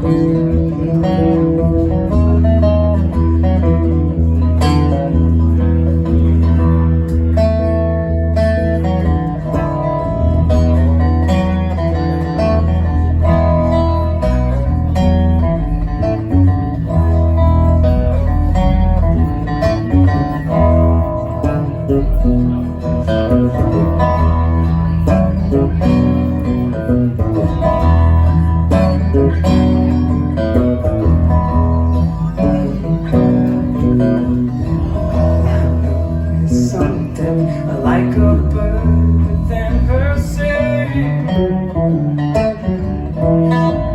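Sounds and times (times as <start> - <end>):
guitar: 0.0 - 43.9
heavy bass line: 0.0 - 43.9
live band playing: 0.0 - 43.9.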